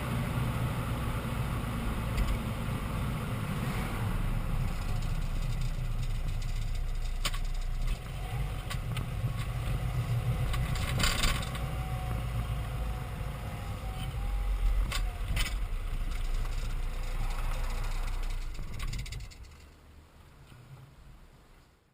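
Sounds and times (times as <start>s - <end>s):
car road rumble: 0.0s - 21.8s.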